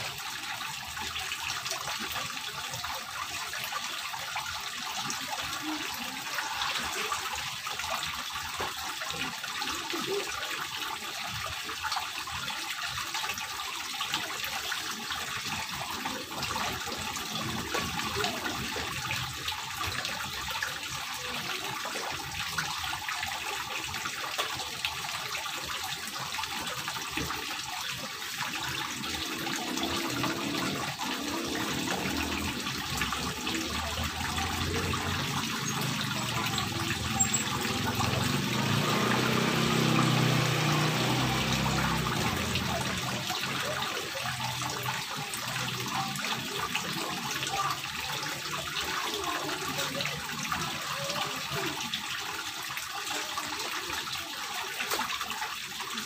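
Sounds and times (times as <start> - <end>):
fountain water trickling and splashing: 0.0 - 56.0.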